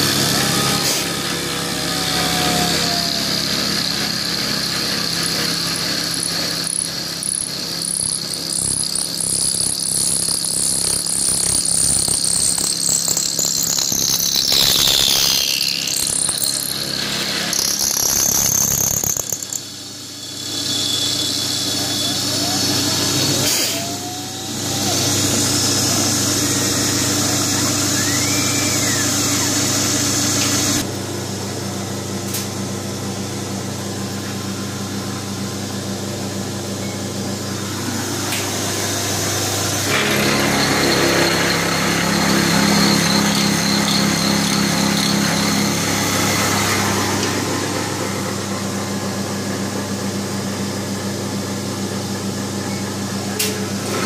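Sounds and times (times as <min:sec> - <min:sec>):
end mill cutting metal: 0:00.0 - 0:31.0, 0:33.6 - 0:52.4
milling machine motor hum: 0:00.0 - 0:54.0.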